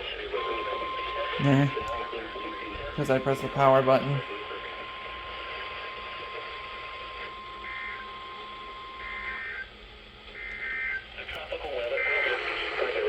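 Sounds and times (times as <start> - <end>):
faint steady tone: 0.0 - 13.0
radio static hiss: 0.0 - 13.0
warbling digital data bursts: 0.0 - 13.0.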